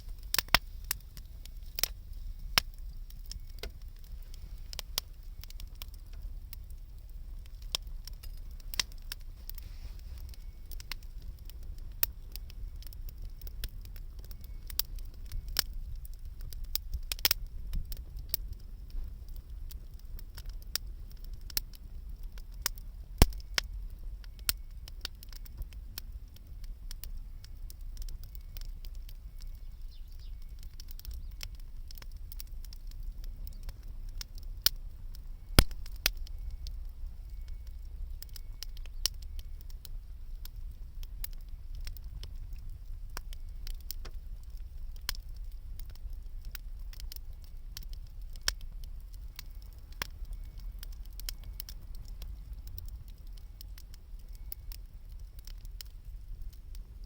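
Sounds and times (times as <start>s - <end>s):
loud fire snaps: 0.0s - 57.0s
wood fire crackling: 0.0s - 57.0s.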